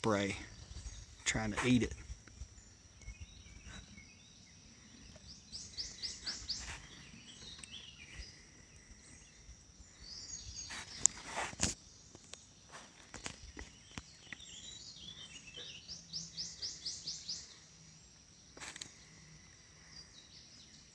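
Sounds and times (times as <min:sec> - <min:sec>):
bird chirping: 0:00.0 - 0:20.9
high insect drone: 0:00.0 - 0:20.9.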